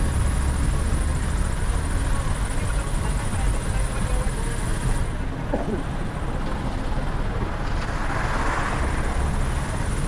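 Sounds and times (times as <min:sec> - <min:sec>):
vehicle rumble and road noise: 0:00.0 - 0:10.0.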